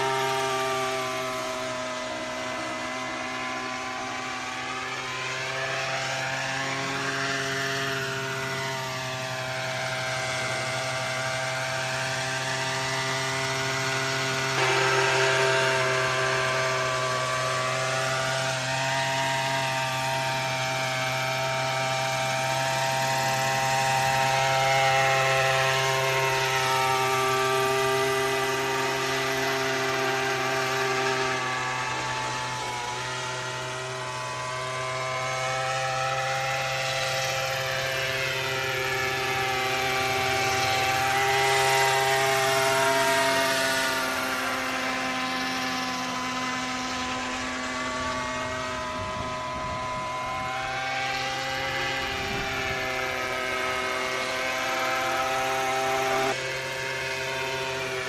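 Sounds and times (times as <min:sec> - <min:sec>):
radio-control helicopter engine: 0:00.0 - 0:58.0.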